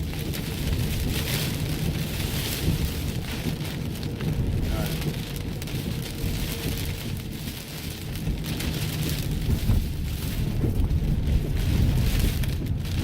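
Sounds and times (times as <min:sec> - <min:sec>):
heavy rain pelting a car: 0:00.0 - 0:13.0
low rumble: 0:00.0 - 0:13.0.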